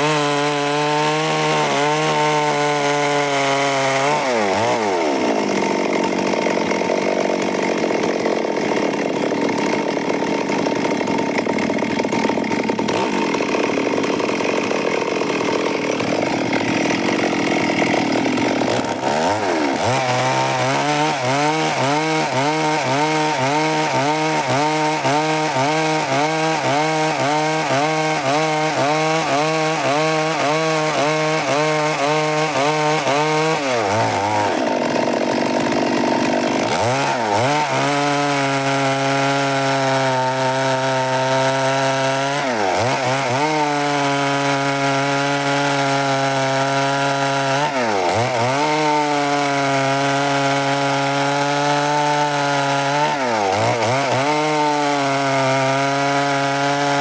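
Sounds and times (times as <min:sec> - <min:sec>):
chainsaw sawing wood: 0:00.0 - 0:57.0.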